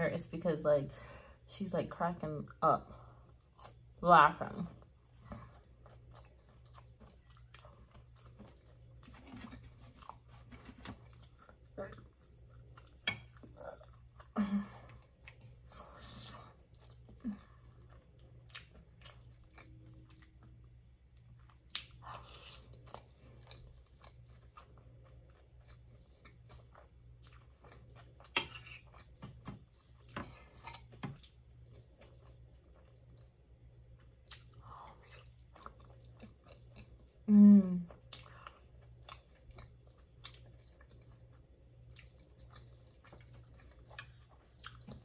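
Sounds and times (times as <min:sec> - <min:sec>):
faint low hum: 0:00.0 - 0:45.0
chewing and mouth sounds: 0:04.7 - 0:45.0.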